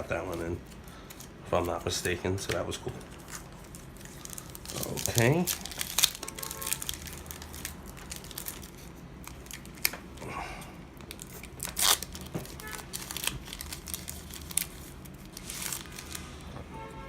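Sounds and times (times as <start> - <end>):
foil wrapper crinkling and tearing: 0.0 - 10.3, 10.9 - 16.5.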